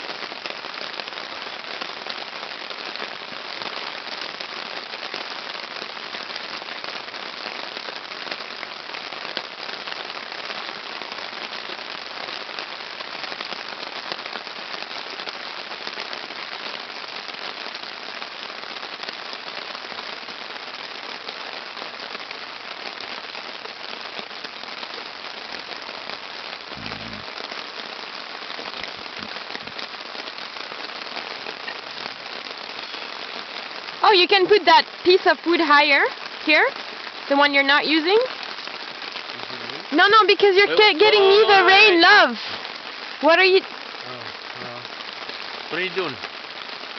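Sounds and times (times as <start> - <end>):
heavy rain on a tarp: 0.0 - 46.9.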